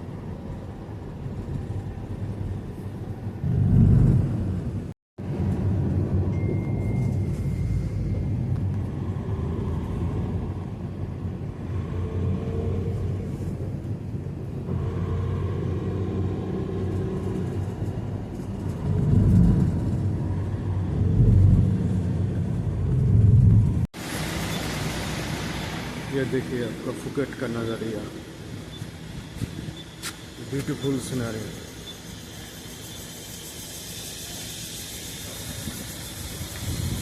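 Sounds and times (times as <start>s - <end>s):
motor vehicle rumbling: 0.0s - 37.0s.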